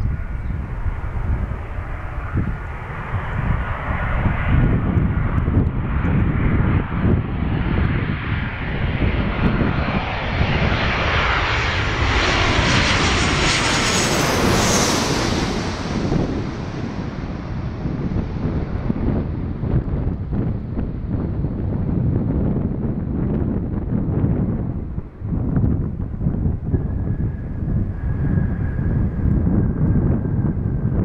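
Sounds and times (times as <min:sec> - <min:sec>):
jet engine whine: 0:00.0 - 0:31.0
wind buffeting microphone: 0:00.0 - 0:31.0.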